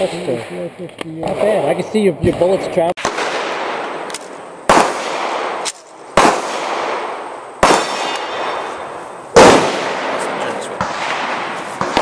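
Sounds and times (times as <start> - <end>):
echoing gunshots: 1.2 - 12.0.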